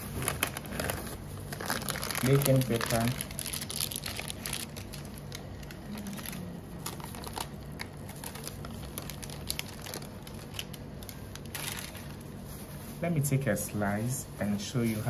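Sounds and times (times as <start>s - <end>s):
baking paper crinkling: 0.0s - 15.0s.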